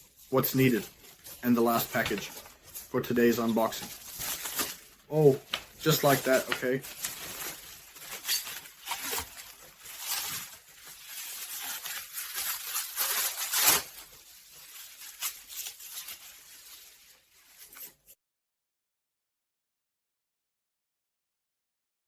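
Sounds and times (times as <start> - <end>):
packaging tearing and crinkling: 0.4 - 18.1.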